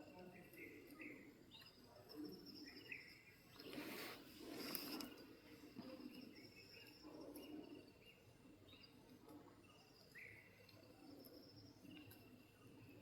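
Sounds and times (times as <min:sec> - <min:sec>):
faint insect trill: 0:00.0 - 0:13.0
small birds chirping: 0:00.0 - 0:13.0.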